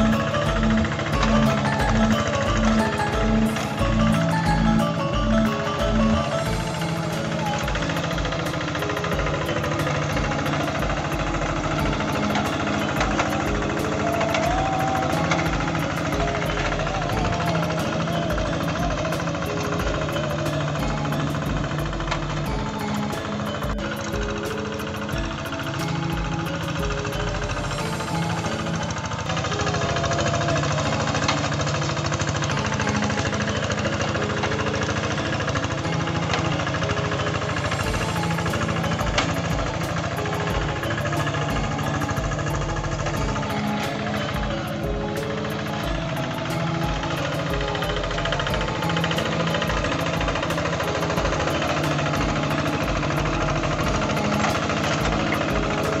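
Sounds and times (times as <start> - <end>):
diesel tractor engine pulsing: 0.0 - 56.0.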